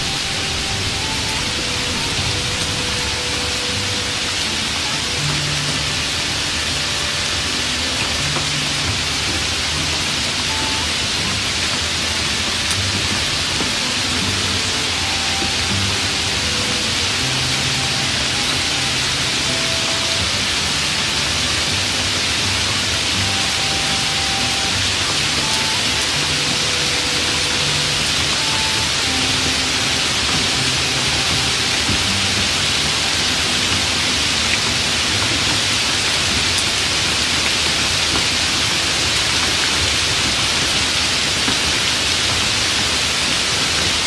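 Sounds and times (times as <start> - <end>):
hot oil sizzling in a wok: 0.0 - 44.0.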